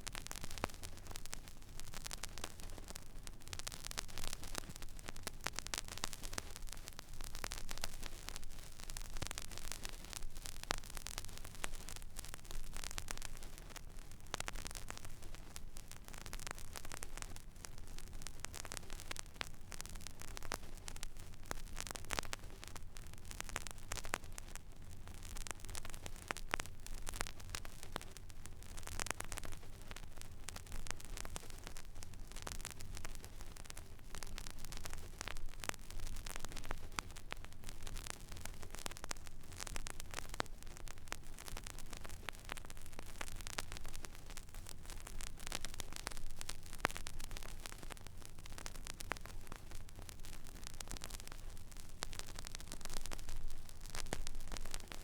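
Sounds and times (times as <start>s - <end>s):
vinyl surface hiss and crackles: 0.0s - 55.0s.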